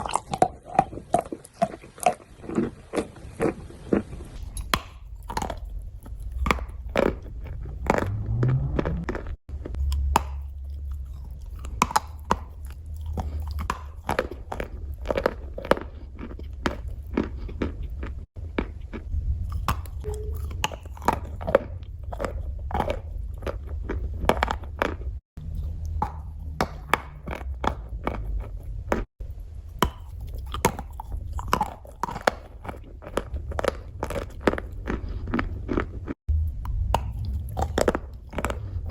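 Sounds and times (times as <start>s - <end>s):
chalk crunching being chewed: 0.0s - 38.9s.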